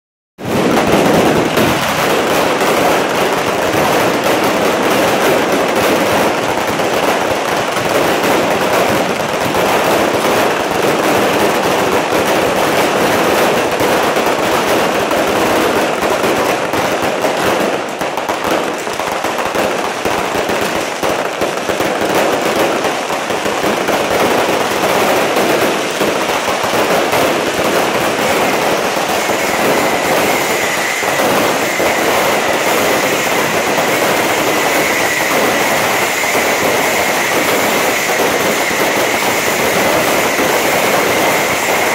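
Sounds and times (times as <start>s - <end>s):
fireworks crackling and banging: 0.4s - 41.9s.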